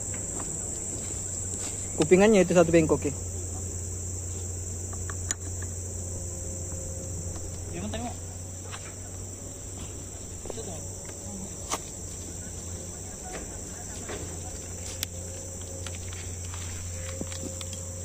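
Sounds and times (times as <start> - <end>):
high-pitched insect chorus: 0.0 - 18.0
low steady hum: 0.0 - 18.0.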